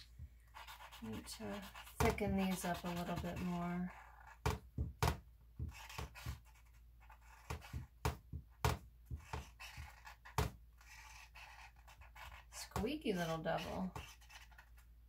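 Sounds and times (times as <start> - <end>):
marker squeaking on canvas: 0.0 - 15.0.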